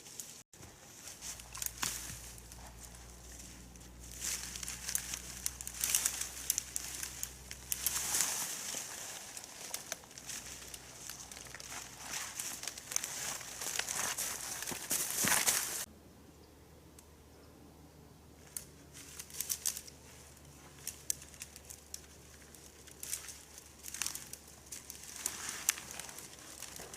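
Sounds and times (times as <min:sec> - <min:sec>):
dry leaves rustling and crackling: 0:00.0 - 0:15.9, 0:18.4 - 0:26.9
low hum: 0:00.6 - 0:26.9.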